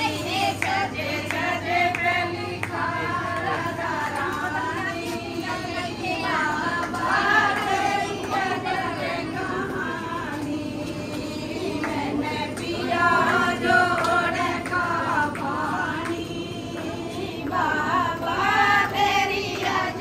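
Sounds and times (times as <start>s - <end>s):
group of voices singing: 0.0s - 20.0s
steady background noise: 0.0s - 20.0s.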